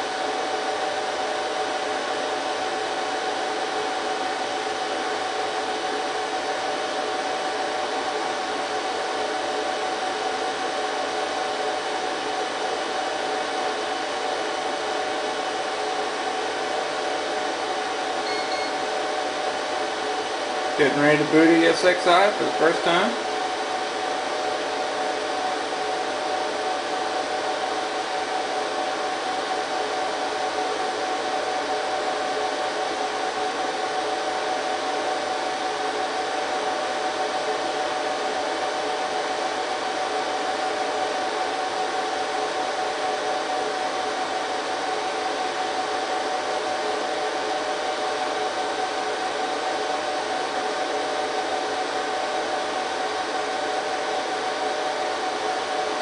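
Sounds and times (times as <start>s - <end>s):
server cooling fans whirring: 0.0s - 56.0s.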